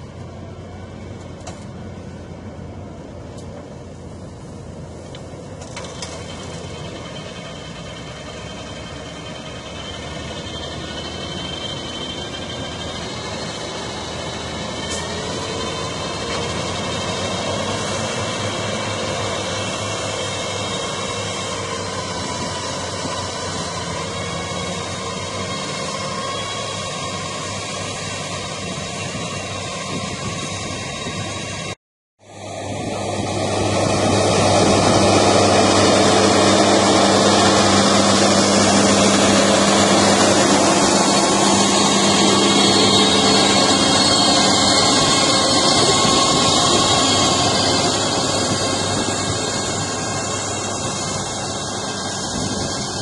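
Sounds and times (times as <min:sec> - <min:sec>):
tractor diesel engine under load: 0:00.0 - 0:53.0
thin high whine: 0:03.8 - 0:53.0.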